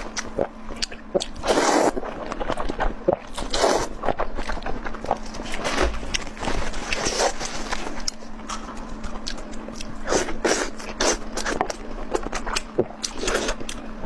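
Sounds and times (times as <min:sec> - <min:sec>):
wet chewing and lip-smacking: 0:00.0 - 0:07.0, 0:08.0 - 0:13.8.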